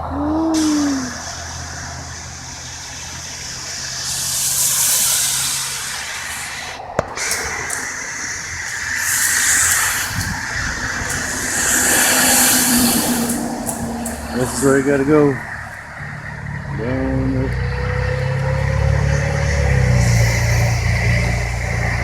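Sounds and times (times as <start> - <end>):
low engine drone: 0.0 - 22.0
tyres hissing through wet snow: 0.0 - 22.0.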